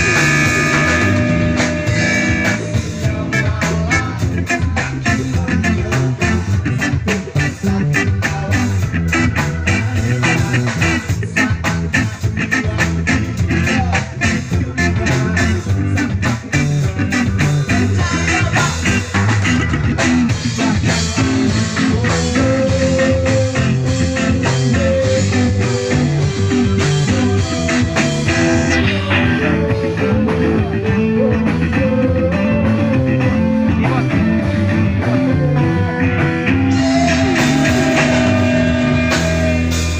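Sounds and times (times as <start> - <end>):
live band playing amplified music: 0.0 - 39.9.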